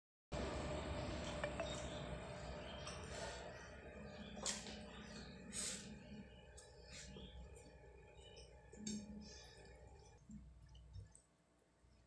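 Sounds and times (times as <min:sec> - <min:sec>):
background noise: 0:00.4 - 0:12.0.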